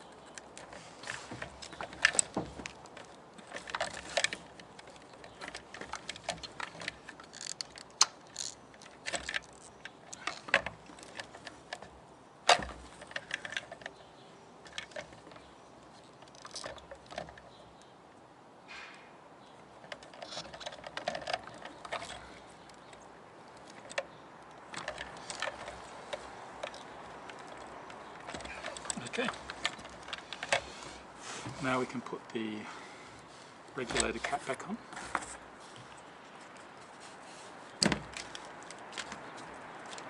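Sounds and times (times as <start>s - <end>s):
plastic and metal parts clicking: 0.0s - 17.9s, 19.7s - 32.6s, 33.7s - 35.5s, 37.8s - 40.0s.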